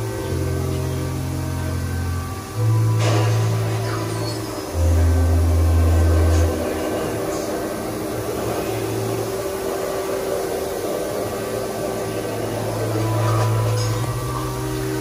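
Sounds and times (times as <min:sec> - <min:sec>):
faint hiss: 0:00.0 - 0:15.0
loud low note: 0:00.0 - 0:15.0
low droning hum: 0:00.0 - 0:15.0.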